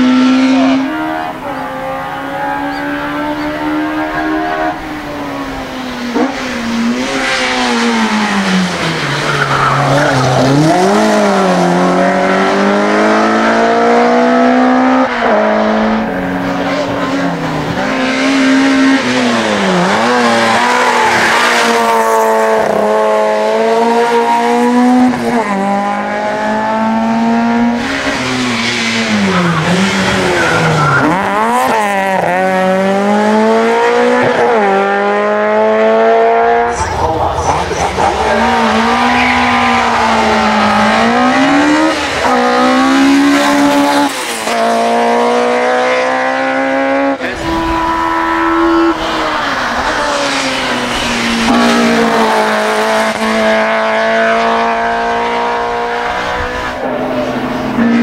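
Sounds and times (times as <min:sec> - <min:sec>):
racing car engine revving hard: 0:00.0 - 0:58.0.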